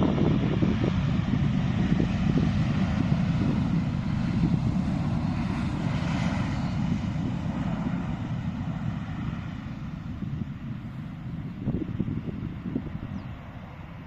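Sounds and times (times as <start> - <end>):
jet airliner engines rumbling: 0.0 - 14.0.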